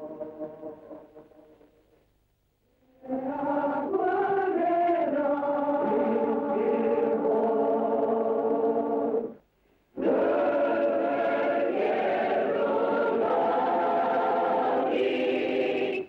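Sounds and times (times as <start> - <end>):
choir singing held chords: 0.0 - 1.8, 2.8 - 16.0.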